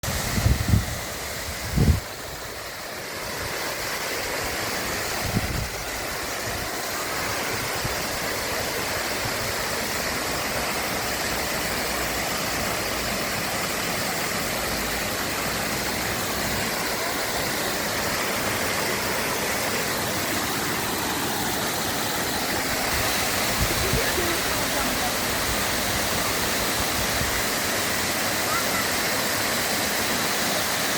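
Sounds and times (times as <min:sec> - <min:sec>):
water rushing: 0:00.0 - 0:30.9.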